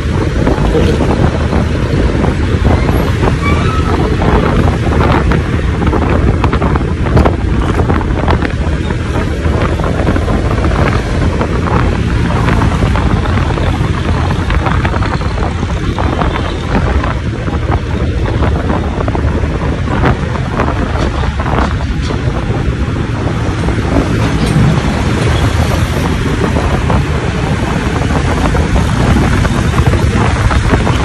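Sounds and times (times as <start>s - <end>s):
engine and road noise: 0.0s - 31.0s
wind buffeting microphone: 0.0s - 31.0s.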